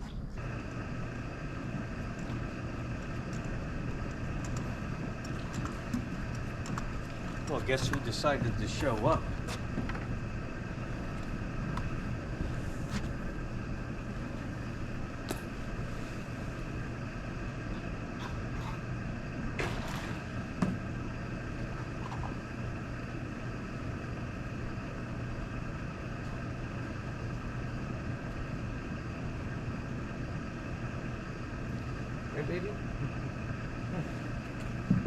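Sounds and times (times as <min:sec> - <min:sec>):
motor traffic drone: 0:00.0 - 0:35.0.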